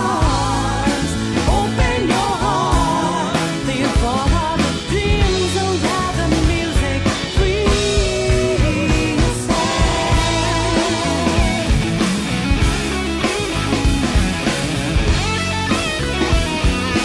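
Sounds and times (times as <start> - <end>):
rock song with sung vocals: 0.0 - 17.0.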